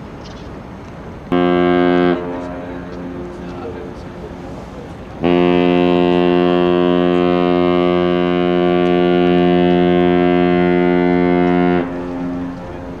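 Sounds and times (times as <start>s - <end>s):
ship's horn blast: 1.3s - 13.0s.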